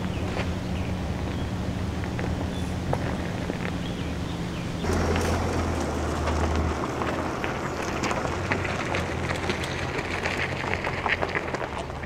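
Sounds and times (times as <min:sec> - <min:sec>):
diesel engine running at low revs: 0:00.0 - 0:12.0
tyres crackling on dirt track: 0:00.0 - 0:12.0.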